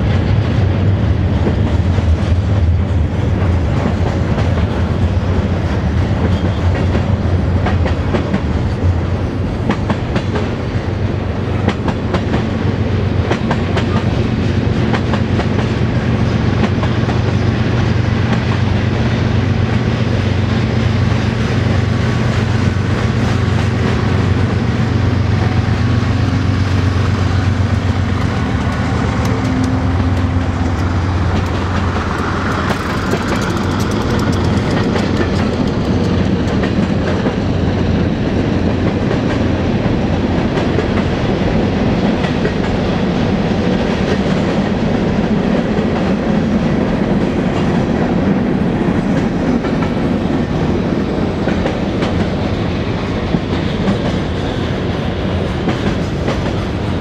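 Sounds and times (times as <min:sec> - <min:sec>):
diesel locomotive engine hum: 0:00.0 - 0:57.0
freight cars rumbling: 0:00.0 - 0:57.0
train wheel clatter: 0:00.0 - 0:57.0.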